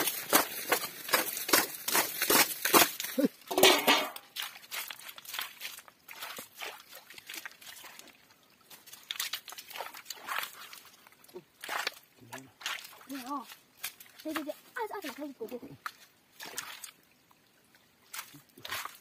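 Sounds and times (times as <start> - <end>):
rustling and crackling in stream: 0.0 - 19.0.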